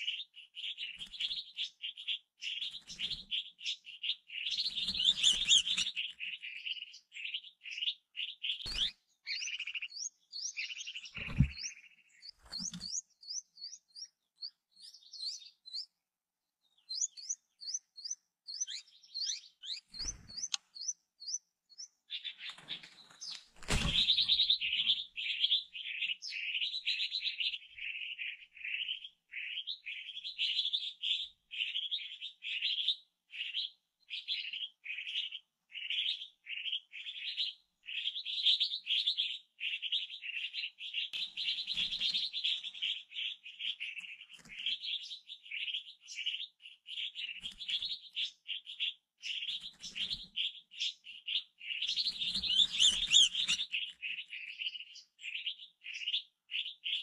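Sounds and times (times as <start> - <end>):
rapid bird chirps: 0.0 - 16.0, 16.6 - 57.0
nestling birds begging chirps: 0.0 - 57.0.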